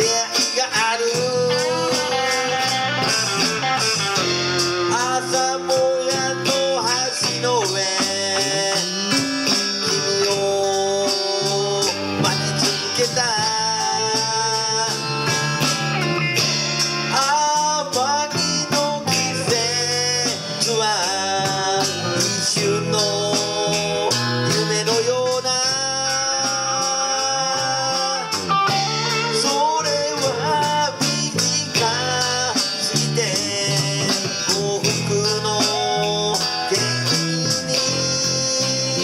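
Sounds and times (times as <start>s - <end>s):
bass guitar: 0.0s - 39.0s
bending guitar line: 0.0s - 39.0s
drums: 0.0s - 39.0s
electric guitars: 0.0s - 39.0s.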